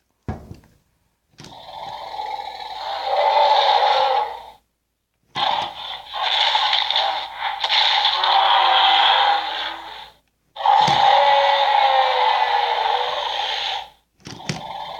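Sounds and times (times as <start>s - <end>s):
electronic toy dinosaur roar: 1.4s - 4.6s, 5.3s - 14.9s.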